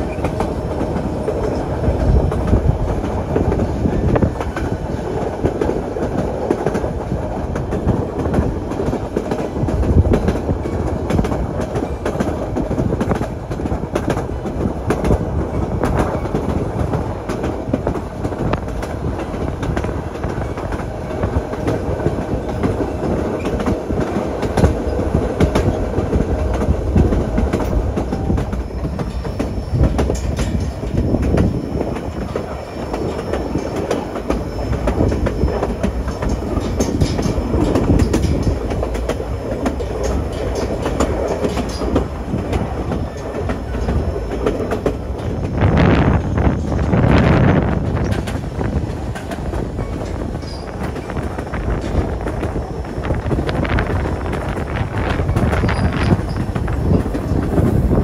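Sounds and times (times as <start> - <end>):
wheels clicking over rail joints: 0.0 - 45.6, 47.8 - 57.6
steel wheels rumbling on rail: 0.0 - 58.0.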